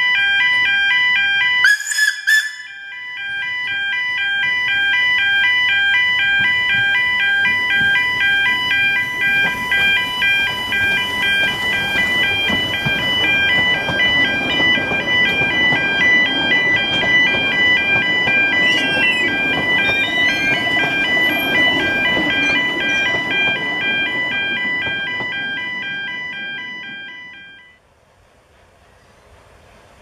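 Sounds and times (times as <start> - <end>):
two-tone warning alarm beeping: 0.0 - 27.8
railway carriages rumbling past: 0.1 - 30.0.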